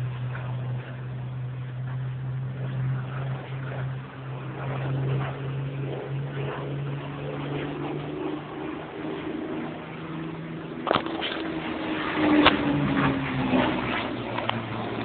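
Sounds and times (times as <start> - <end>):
distant airplane engine drone: 0.0 - 15.0.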